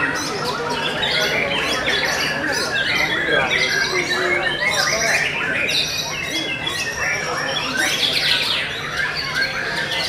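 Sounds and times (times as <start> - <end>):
birds singing whistles and trills: 0.0 - 10.0.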